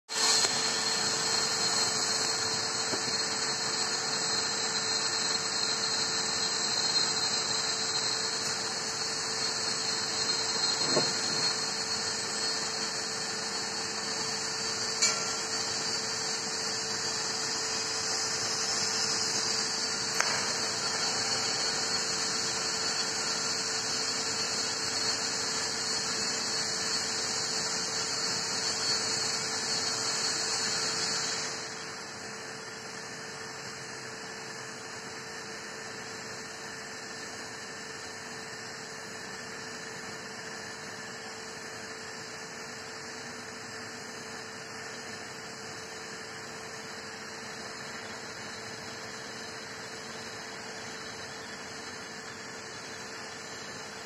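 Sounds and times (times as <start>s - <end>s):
welding equipment hiss and hum: 0.1s - 54.0s.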